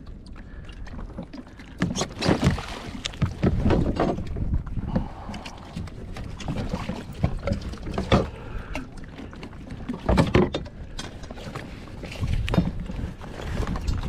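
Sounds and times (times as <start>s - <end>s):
knocks and thumps on kayak: 1.0s - 14.0s.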